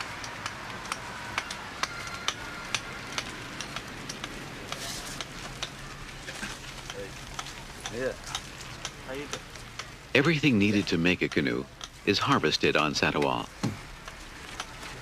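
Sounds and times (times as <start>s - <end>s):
steady hiss: 1.8s - 15.0s.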